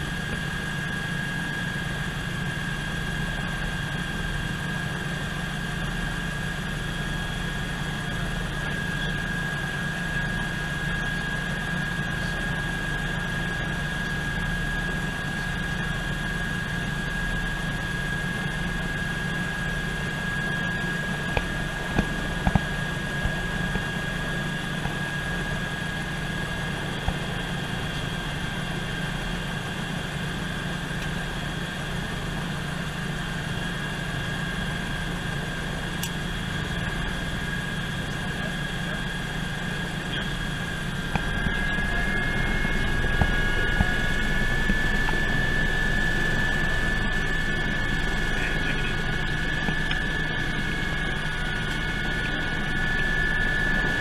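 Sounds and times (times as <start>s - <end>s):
helicopter rotor drone: 0.0s - 54.0s
helicopter turbine whine: 0.0s - 54.0s.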